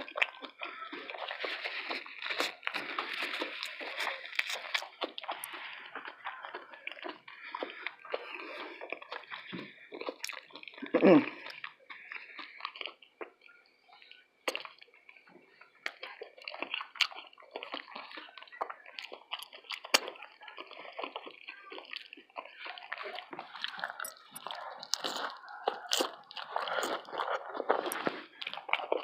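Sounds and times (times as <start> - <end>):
wet chewing and lip smacking: 0.0 - 29.0.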